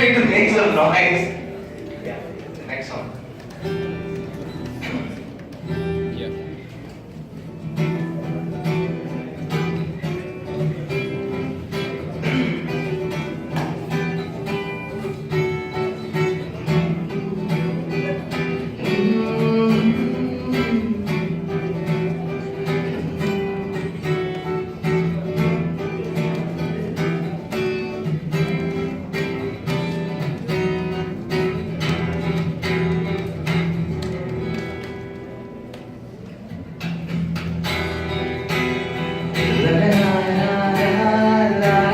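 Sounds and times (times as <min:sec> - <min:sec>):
guitar strumming and picking: 0:00.0 - 0:41.9.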